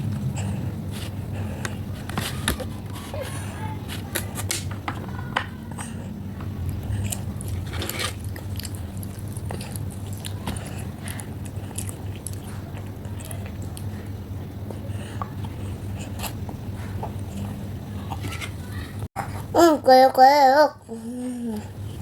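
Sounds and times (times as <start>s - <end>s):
child chewing grapes: 0.0s - 19.6s, 20.8s - 22.0s.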